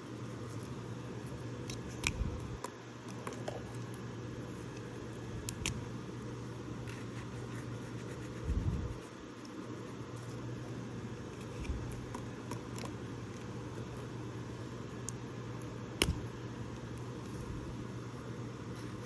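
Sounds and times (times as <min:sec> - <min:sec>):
room noise hum: 0:00.0 - 0:19.0.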